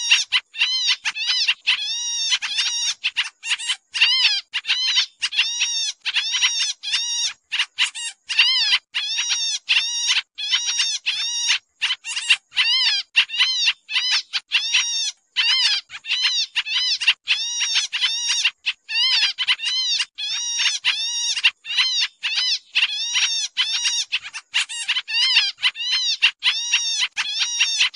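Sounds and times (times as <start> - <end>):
birds chattering harshly: 0.0 - 27.9.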